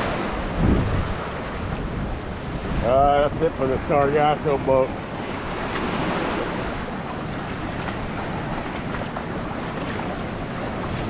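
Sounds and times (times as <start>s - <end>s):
sea waves washing on shore: 0.0s - 11.0s
wind rumbling on microphone: 0.0s - 11.0s.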